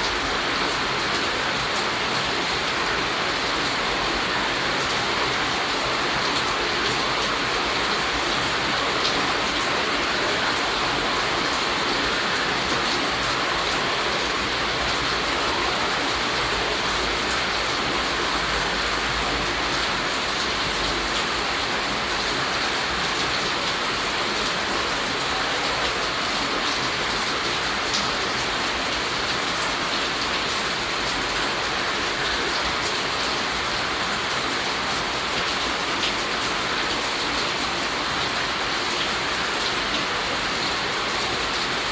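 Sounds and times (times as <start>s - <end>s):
steady rainfall: 0.0s - 41.9s.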